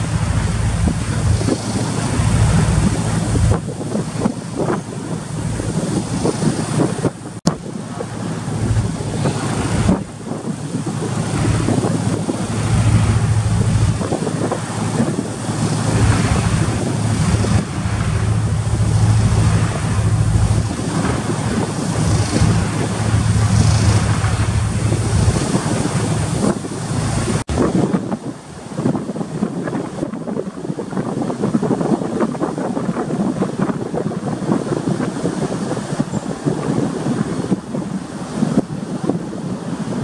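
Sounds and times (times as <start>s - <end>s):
rough sea rushing: 0.0s - 40.0s
wind buffeting microphone: 0.0s - 40.0s.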